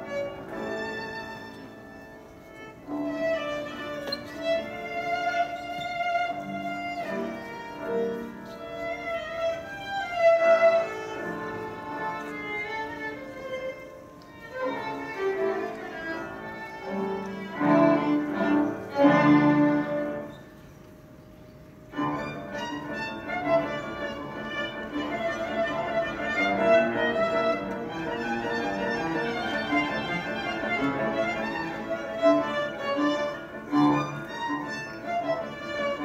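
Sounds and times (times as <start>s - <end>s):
solo violin: 0.0s - 21.0s, 21.7s - 36.0s.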